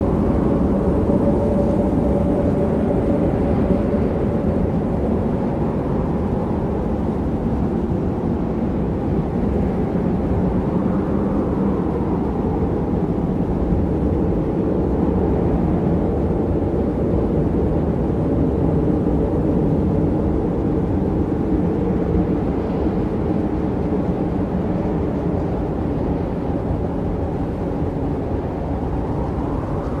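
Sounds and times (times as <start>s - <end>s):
blizzard wind howling: 0.0s - 30.0s.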